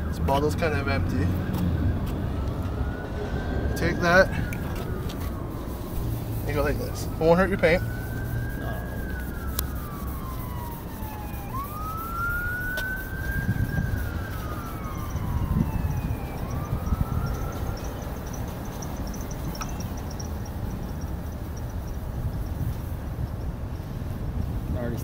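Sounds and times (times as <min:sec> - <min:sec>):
emergency siren wailing: 0:00.0 - 0:22.4
low traffic rumble: 0:00.0 - 0:25.0.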